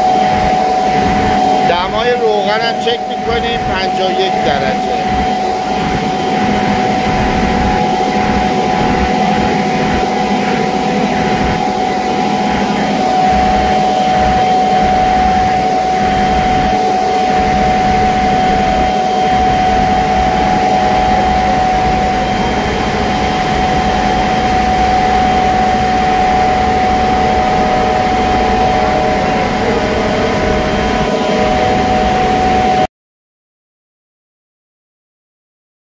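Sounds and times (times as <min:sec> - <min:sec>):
screw compressor drone: 0:00.0 - 0:32.8
high whine: 0:00.0 - 0:32.9.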